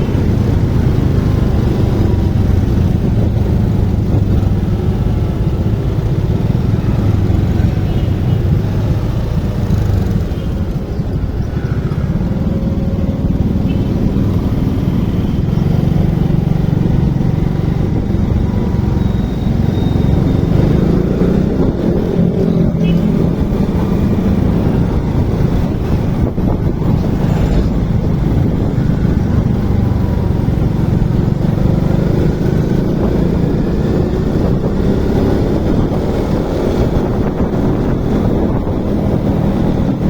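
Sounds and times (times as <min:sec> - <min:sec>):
motorcycle engine rumble: 0:00.0 - 0:40.0.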